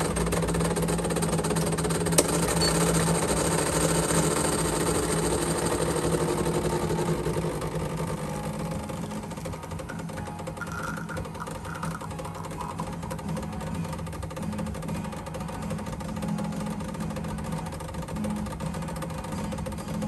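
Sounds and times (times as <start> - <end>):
espresso machine pump humming: 0.0 - 19.6.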